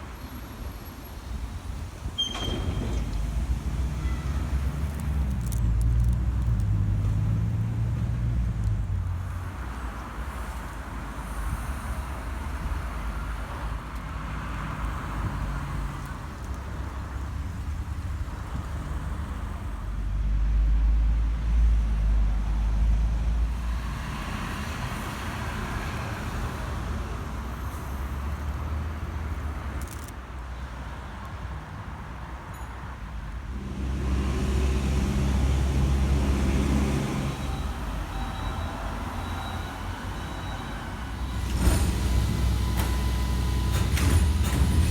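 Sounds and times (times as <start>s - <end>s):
car engines rumbling: 0.0s - 44.9s.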